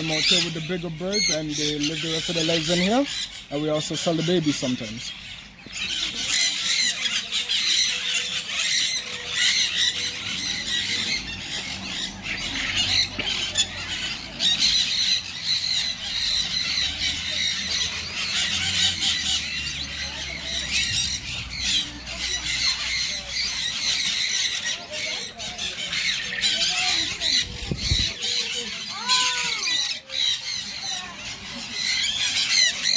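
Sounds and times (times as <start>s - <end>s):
birds squawking and chirping: 0.0s - 32.9s.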